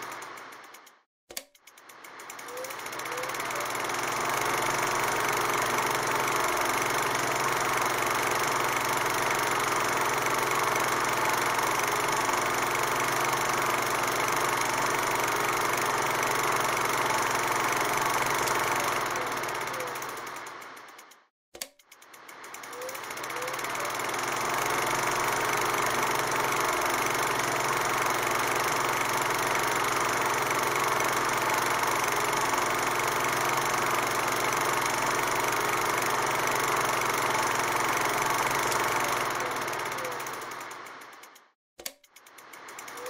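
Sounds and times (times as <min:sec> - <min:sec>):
film projector whirring and clattering: 0:00.0 - 0:43.0.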